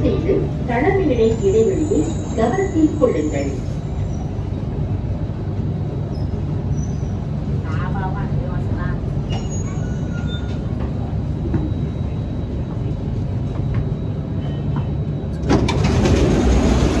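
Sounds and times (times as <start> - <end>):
train rumbling and humming: 0.0 - 17.0.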